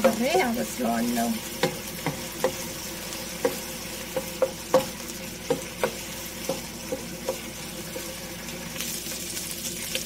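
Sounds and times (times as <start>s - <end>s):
wooden spatula scraping a wok: 0.0s - 8.8s
chicken sizzling in oil: 0.0s - 10.0s.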